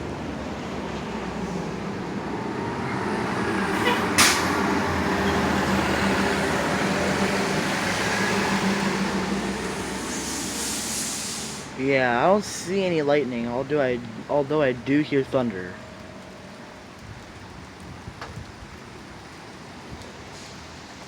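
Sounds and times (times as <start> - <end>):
bus engine passing: 0.0 - 21.0.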